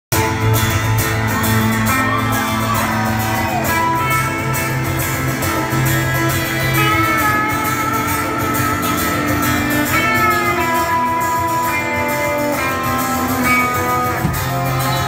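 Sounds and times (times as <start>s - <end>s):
acoustic guitar: 0.1s - 15.0s
electric guitar: 0.1s - 15.0s.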